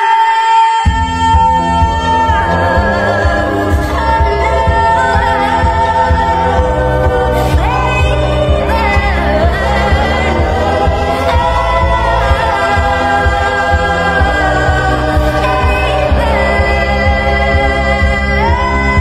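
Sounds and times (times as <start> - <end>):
low bass pulse: 0.9 - 19.0.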